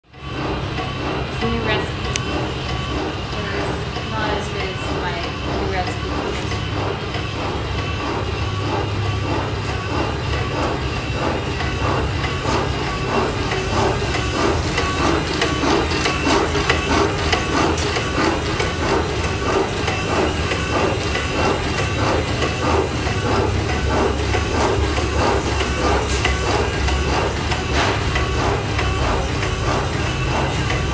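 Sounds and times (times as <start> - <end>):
steam engine rhythmic clatter: 0.0 - 30.9.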